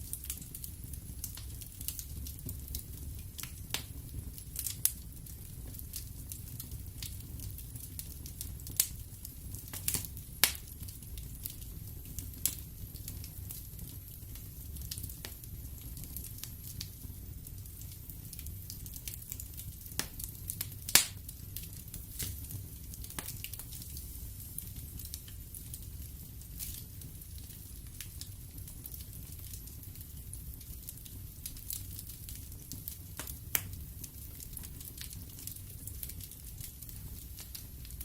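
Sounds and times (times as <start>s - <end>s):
low rumble of flames: 0.0s - 38.0s
sharp pops from fire: 0.0s - 38.0s
wood fire crackling: 0.0s - 38.0s.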